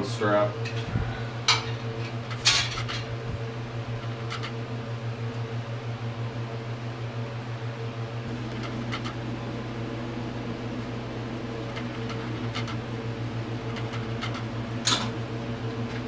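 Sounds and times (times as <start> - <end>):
heater fan humming: 0.0 - 16.0.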